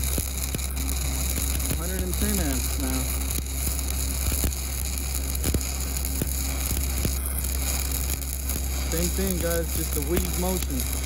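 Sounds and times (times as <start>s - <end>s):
spatter pops: 0.0s - 11.0s
steady low hum: 0.0s - 11.0s
welding arc crackling: 0.0s - 11.0s.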